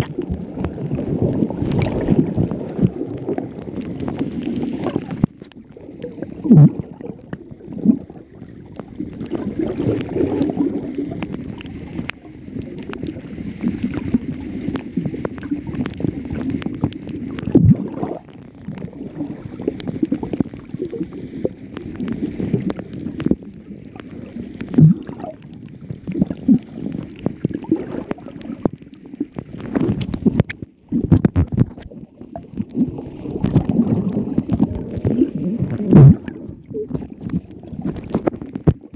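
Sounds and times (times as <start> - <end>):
underwater clicks and knocks: 0.0 - 38.9
underwater rumble and gurgle: 0.0 - 38.9.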